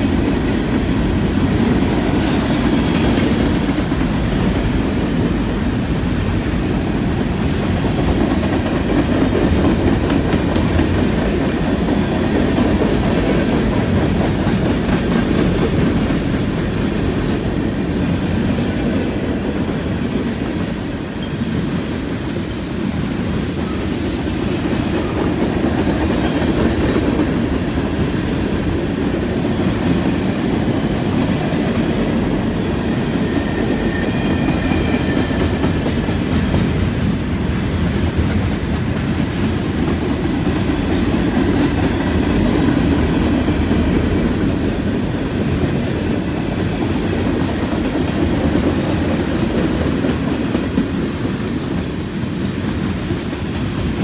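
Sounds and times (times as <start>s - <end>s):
train wheels rumbling over rails: 0.0s - 54.0s.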